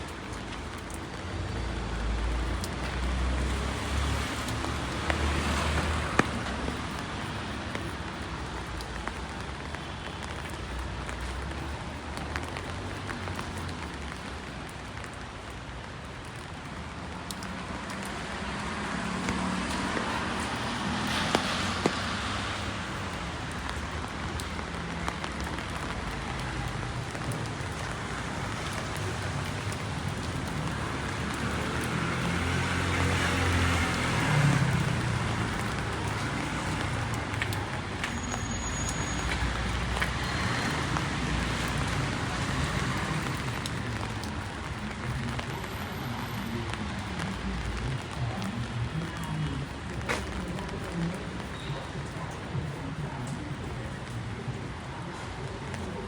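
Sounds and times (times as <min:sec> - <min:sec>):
rain on a street: 0:00.0 - 0:56.0
raindrop ticks: 0:00.0 - 0:56.0
vehicles hissing on wet road: 0:00.0 - 0:56.0.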